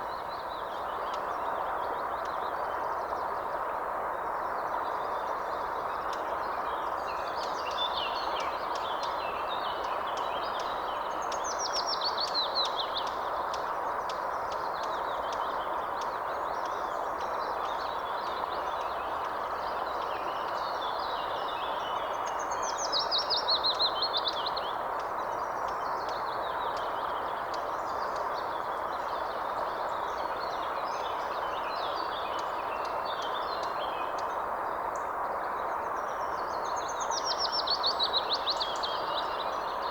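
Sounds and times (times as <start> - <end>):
bird song of fast repeated notes: 0.0 - 39.9.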